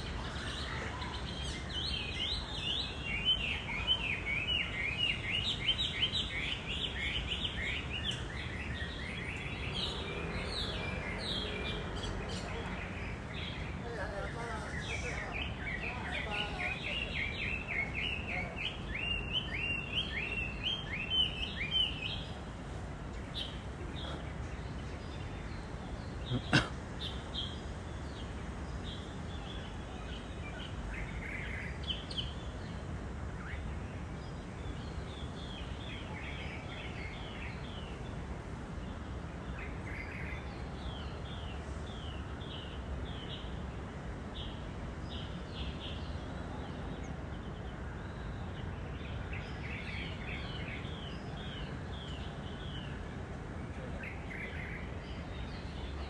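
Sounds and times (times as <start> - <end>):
birds chirping: 0.0 - 56.0
low outdoor background noise: 0.0 - 56.0.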